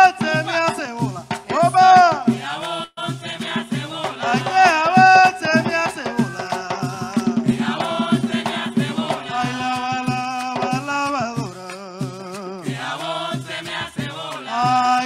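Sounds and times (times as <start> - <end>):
hand drums and percussion: 0.0 - 15.0
people singing: 0.0 - 15.0.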